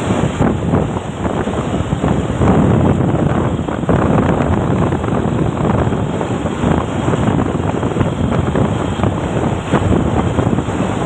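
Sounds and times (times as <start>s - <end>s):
truck running: 0.0s - 11.0s
wind buffeting microphone: 0.0s - 11.0s.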